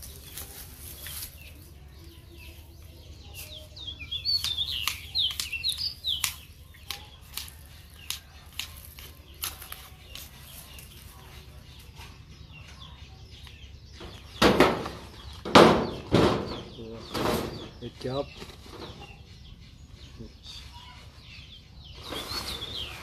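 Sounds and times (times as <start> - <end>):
bird chirping: 0.0 - 23.0.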